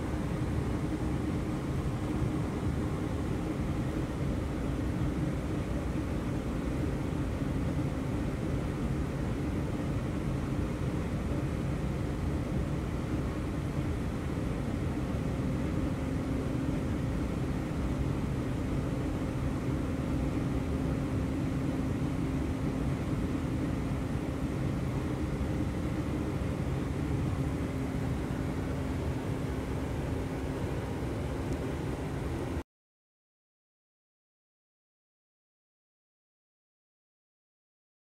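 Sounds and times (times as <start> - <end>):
steady low hum: 0.0 - 32.6.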